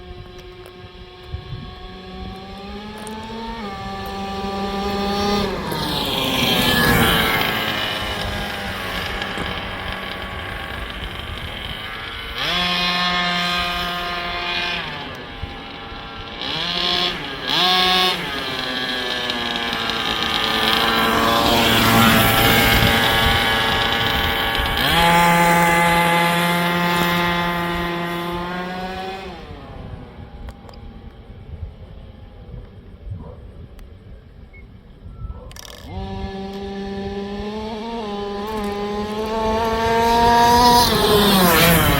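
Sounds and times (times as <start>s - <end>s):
rc truck motor running: 0.2s - 30.9s, 35.5s - 41.9s.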